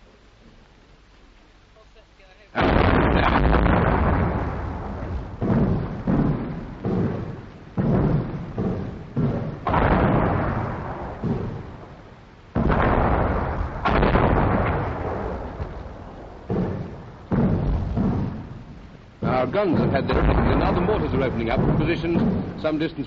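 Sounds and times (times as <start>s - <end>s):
artillery guns firing: 2.6s - 23.0s.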